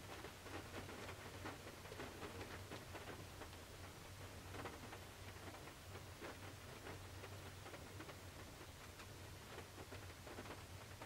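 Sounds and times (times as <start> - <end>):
rain pattering on car roof: 0.0 - 11.0.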